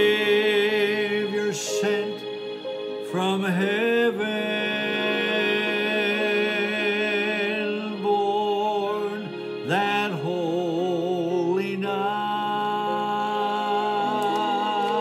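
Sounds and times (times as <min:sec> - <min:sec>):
man singing a hymn: 0:00.0 - 0:02.3, 0:03.0 - 0:15.0
recorded accompaniment: 0:00.0 - 0:15.0.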